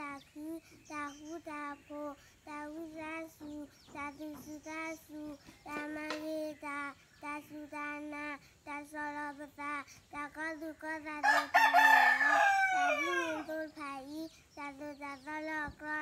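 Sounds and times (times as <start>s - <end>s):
girl singing unaccompanied: 0.0s - 16.0s.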